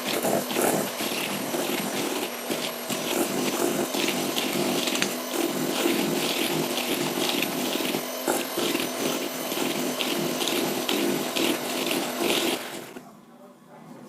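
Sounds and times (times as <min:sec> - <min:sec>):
electric hand mixer running: 0:00.0 - 0:13.1.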